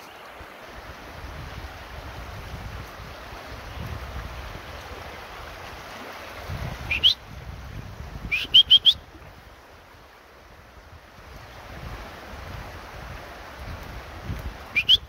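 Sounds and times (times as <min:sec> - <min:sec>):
wind buffeting microphone: 0:00.4 - 0:14.9.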